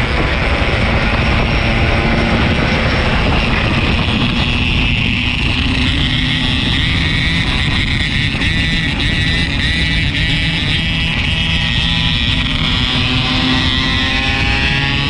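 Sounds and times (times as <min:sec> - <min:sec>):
two-stroke motorcycle engine running: 0:00.0 - 0:15.0
wind rushing over microphone: 0:00.0 - 0:15.0.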